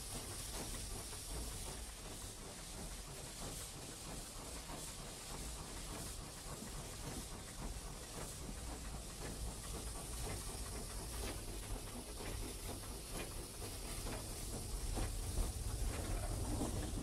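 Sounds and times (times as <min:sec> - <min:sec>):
locomotive running rumble: 0:00.0 - 0:17.0
steam hissing: 0:00.0 - 0:17.0.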